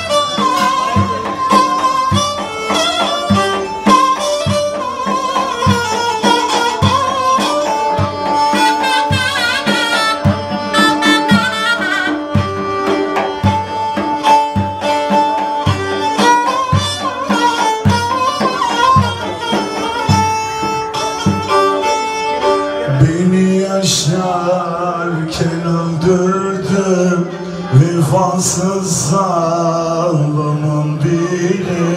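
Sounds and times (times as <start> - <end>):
bowed fiddle melody: 0.0 - 31.9
low drum beat: 0.0 - 31.9.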